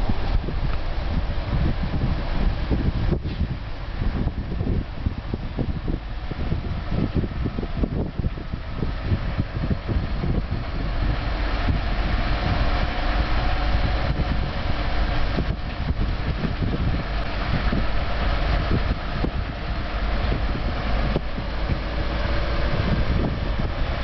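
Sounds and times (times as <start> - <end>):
machinery engine rumble: 0.0 - 24.0.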